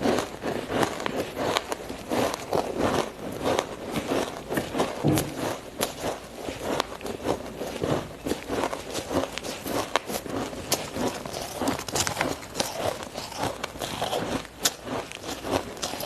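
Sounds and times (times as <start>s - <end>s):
person crunching ice: 0.0s - 16.0s.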